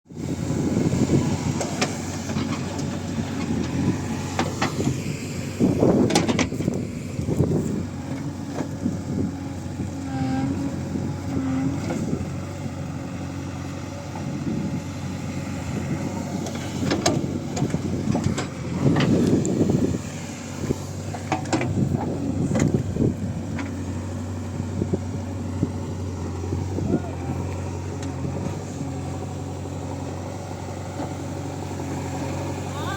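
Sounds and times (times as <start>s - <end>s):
diesel engine under load: 0.1s - 32.9s.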